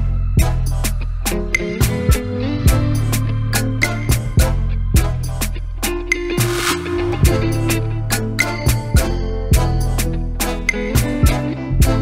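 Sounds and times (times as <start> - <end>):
steady bass line: 0.0 - 12.0
drum beat: 0.4 - 12.0.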